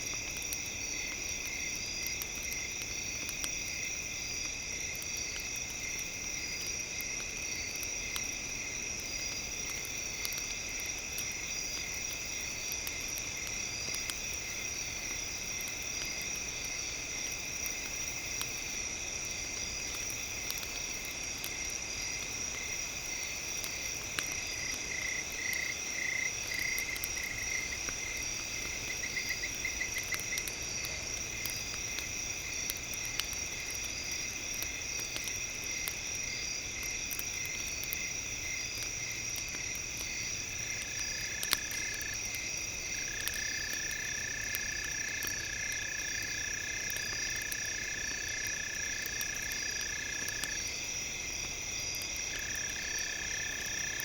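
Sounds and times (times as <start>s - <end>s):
campfire crackling: 0.0s - 54.0s
night insects and frogs calling: 0.0s - 54.0s.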